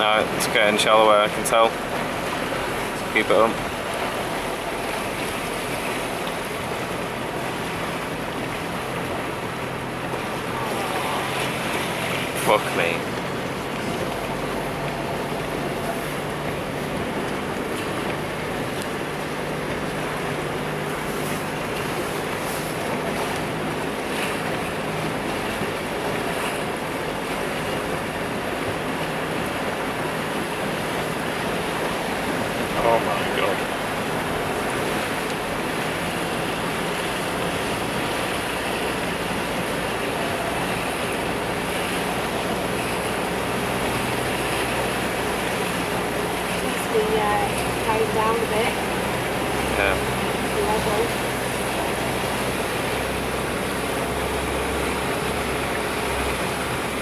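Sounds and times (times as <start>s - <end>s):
car engine running: 0.0s - 57.0s
floodwater rushing: 0.0s - 57.0s
water washing against car: 0.0s - 57.0s.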